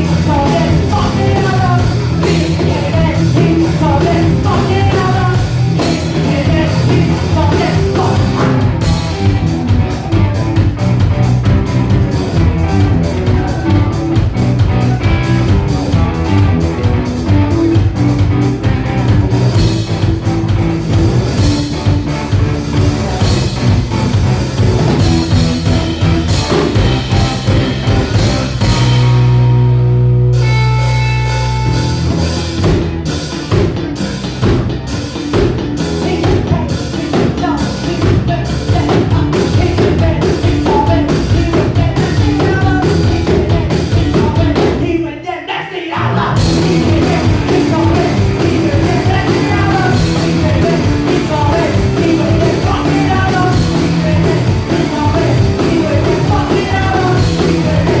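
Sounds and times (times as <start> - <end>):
drums steady beat: 0.0 - 45.0, 46.3 - 58.0
live rock band playing: 0.0 - 45.0, 46.1 - 58.0.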